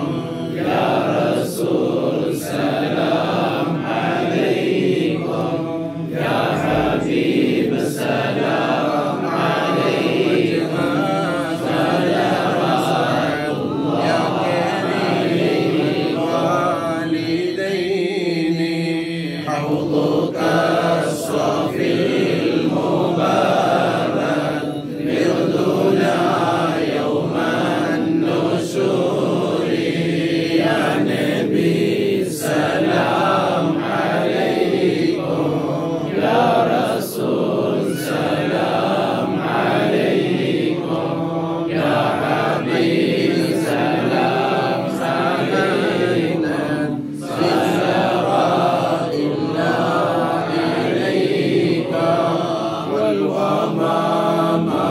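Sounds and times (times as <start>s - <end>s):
men chanting devotional verse: 0.0s - 54.9s.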